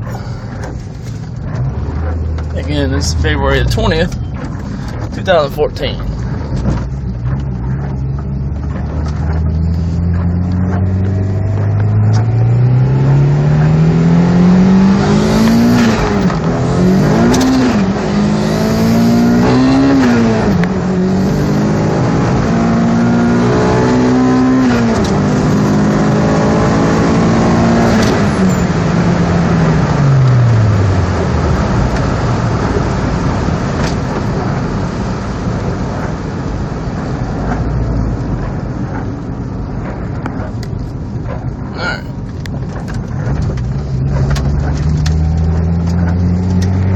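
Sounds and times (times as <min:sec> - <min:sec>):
turbocharged car engine accelerating: 0:00.0 - 0:46.9.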